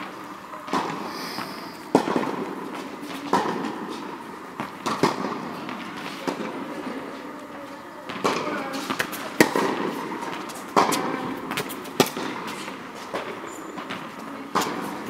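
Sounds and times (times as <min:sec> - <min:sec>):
tennis balls bouncing on court: 0:00.0 - 0:01.1, 0:01.8 - 0:15.0
tennis balls hit with rackets: 0:00.0 - 0:15.0.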